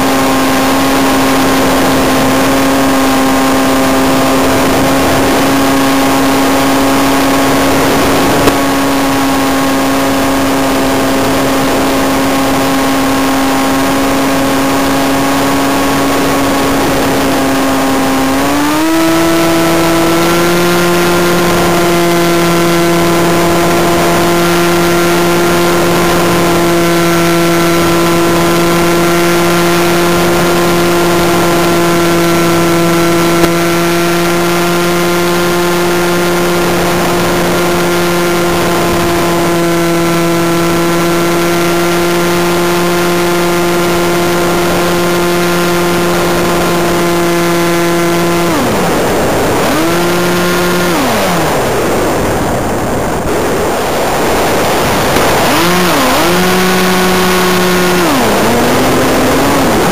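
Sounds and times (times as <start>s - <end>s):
electric motors whining: 0.0s - 59.9s.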